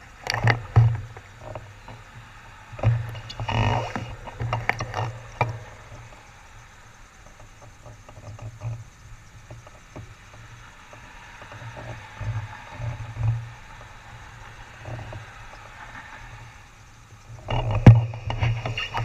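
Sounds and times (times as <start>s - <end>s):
cars passing by: 0.0s - 19.0s.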